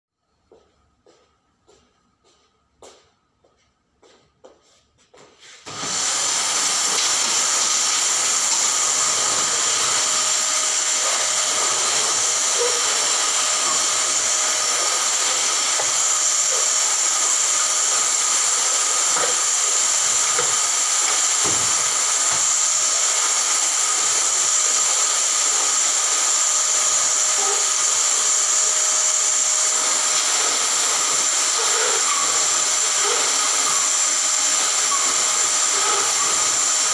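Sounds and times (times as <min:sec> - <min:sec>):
vacuum cleaner running: 0:05.5 - 0:36.9.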